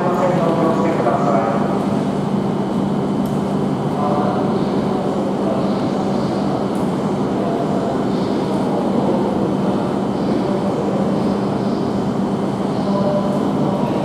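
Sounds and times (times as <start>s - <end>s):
train equipment and fans humming: 0.0s - 14.0s.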